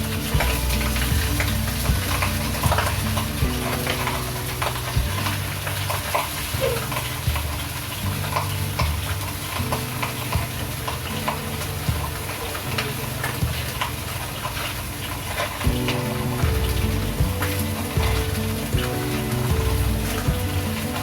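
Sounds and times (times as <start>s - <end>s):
low steady drone: 0.0s - 13.8s, 15.6s - 21.0s
food sizzling in a pan: 0.0s - 21.0s.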